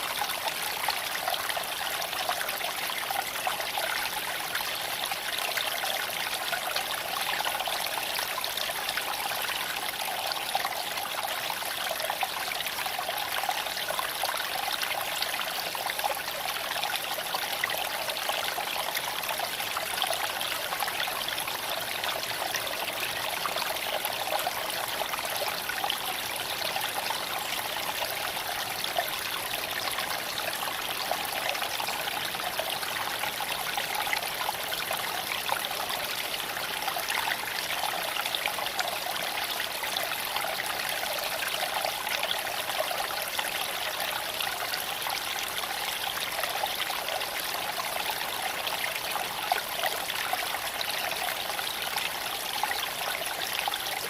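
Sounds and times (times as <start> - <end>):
creek water flowing over stones: 0.0 - 54.0.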